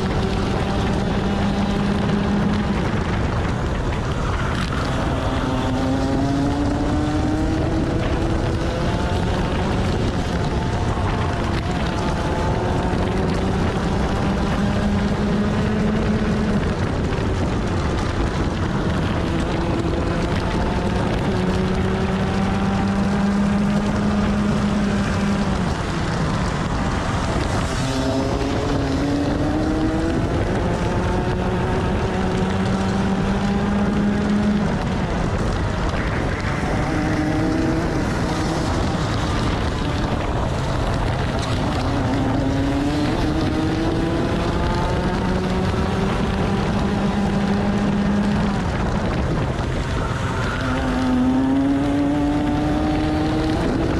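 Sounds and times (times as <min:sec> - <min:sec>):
kart engine revving: 0:00.0 - 0:53.9
wind buffeting microphone: 0:00.0 - 0:53.9.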